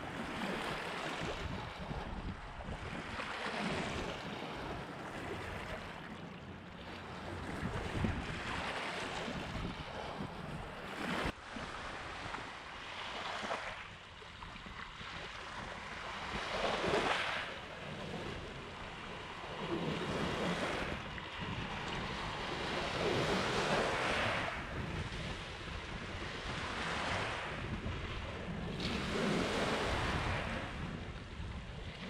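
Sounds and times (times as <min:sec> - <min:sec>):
wind rumbling on microphone: 0:00.0 - 0:06.2, 0:06.9 - 0:32.0.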